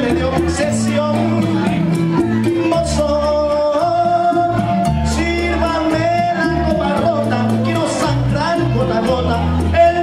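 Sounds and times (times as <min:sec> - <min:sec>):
latin american music: 0:00.0 - 0:10.0
man singing into a microphone: 0:00.0 - 0:10.0
stepping bass line: 0:00.0 - 0:10.0.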